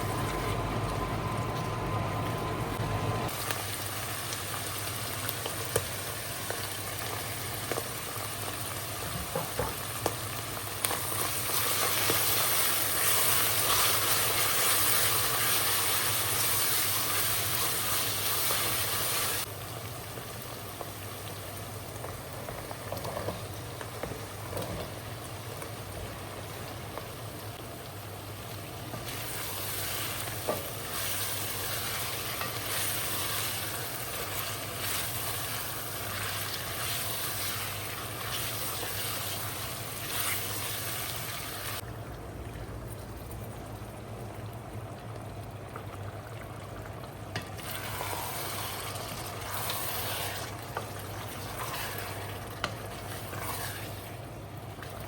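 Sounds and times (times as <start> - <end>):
food sizzling in a pan: 3.3 - 41.8, 47.4 - 55.0.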